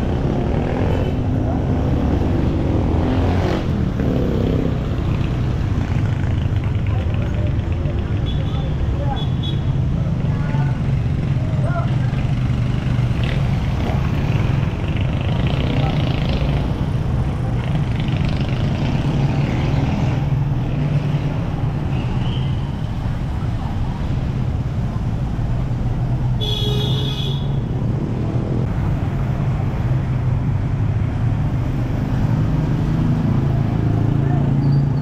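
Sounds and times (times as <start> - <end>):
motorcycle traffic: 0.0 - 35.0.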